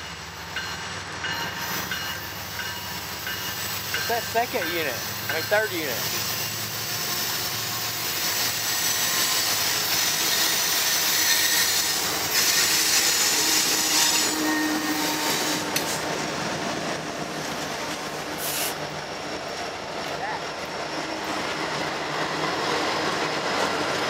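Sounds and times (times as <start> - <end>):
locomotive engines rumbling: 0.0 - 24.0
steel wheels on rail: 0.0 - 24.0.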